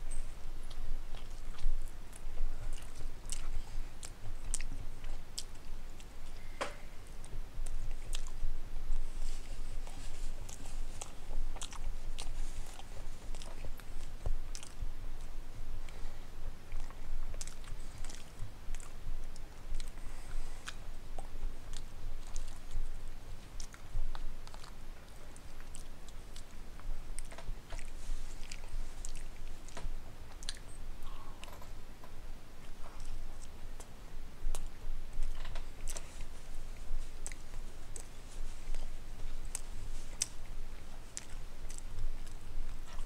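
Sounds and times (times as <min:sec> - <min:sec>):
person chewing food: 0:00.1 - 0:31.8, 0:34.5 - 0:43.0
mouth clicks and smacks: 0:00.6 - 0:43.0.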